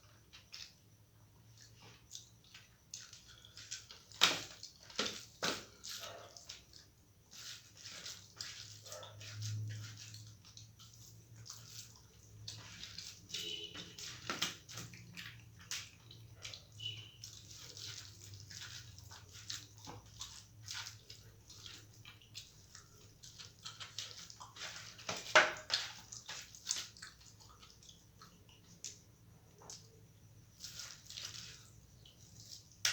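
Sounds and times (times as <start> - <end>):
wet chewing and mouth smacking: 1.6 - 32.8.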